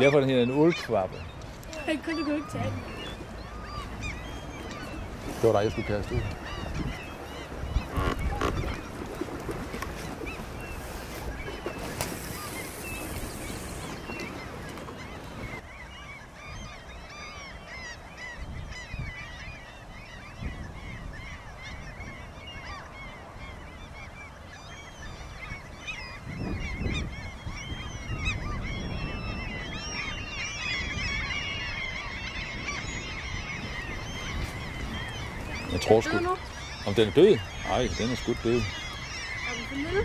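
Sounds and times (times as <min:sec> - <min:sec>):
flock of birds calling: 0:00.0 - 0:40.0
wind rumble on microphone: 0:01.1 - 0:17.2, 0:18.1 - 0:40.0.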